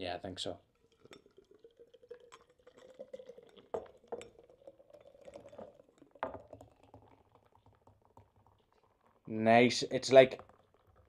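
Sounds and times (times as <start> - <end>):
beer pouring into glass: 0.5 - 11.0.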